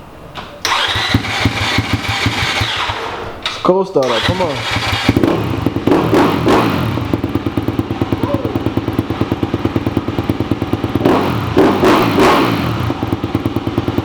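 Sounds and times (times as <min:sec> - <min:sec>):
motorcycle engine puttering: 0:00.6 - 0:14.0.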